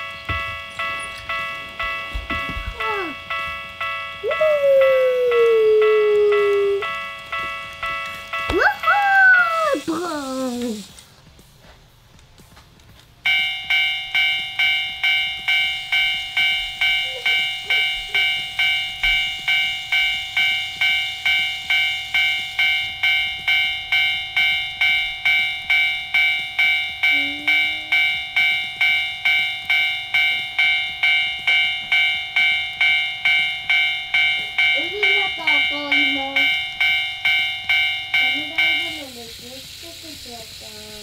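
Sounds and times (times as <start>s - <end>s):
level crossing warning bell: 0.0s - 10.9s, 13.2s - 41.0s.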